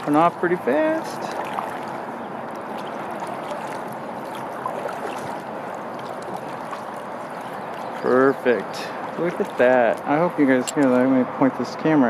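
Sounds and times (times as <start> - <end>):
water rushing along kayak hull: 0.0 - 12.0.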